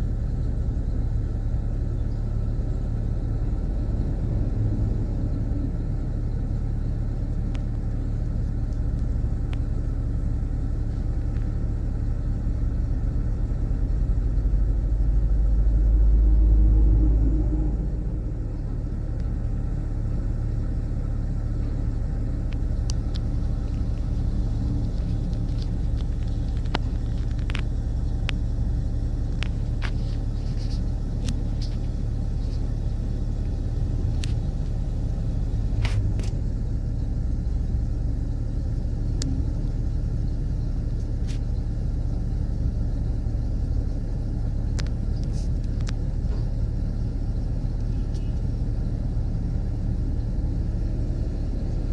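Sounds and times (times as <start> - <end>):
diesel engine rumbling: 0.0 - 51.9.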